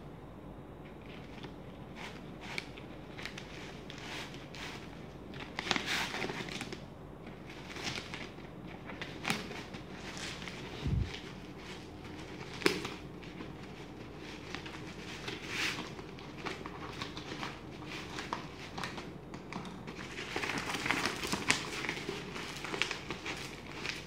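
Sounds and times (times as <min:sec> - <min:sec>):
plastic crinkling: 0:01.0 - 0:24.0.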